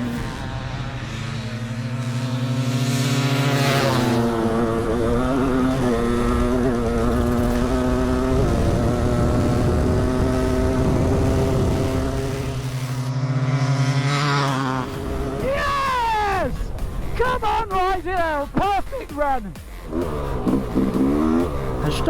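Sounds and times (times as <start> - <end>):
two-stroke dirt bike engines revving: 0.0 - 22.0.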